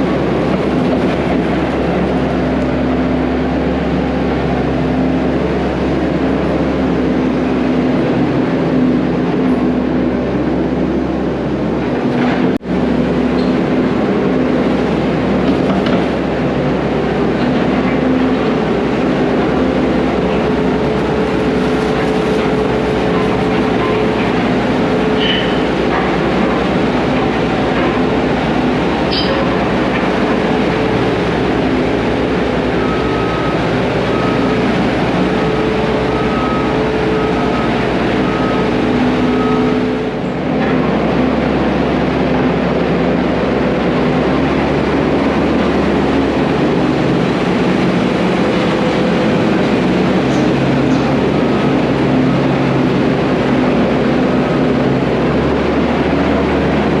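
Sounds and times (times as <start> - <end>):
heavy machinery engine drone: 0.0 - 57.0.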